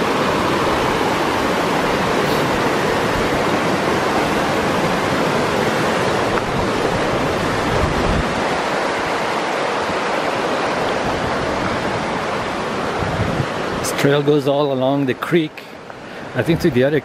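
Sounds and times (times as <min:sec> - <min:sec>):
creek rushing over boulders: 0:00.0 - 0:17.0.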